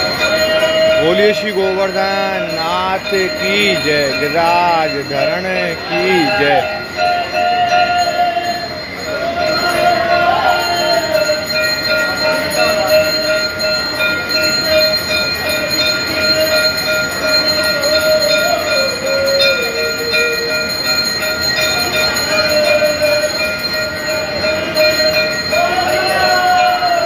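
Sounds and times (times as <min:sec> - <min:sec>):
temple bells ringing: 0:00.0 - 0:27.0.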